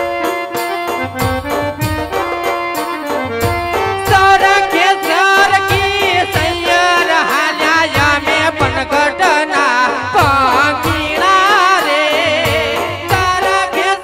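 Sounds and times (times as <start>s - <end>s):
drum beating: 0.0s - 14.0s
held instrumental notes: 0.0s - 14.0s.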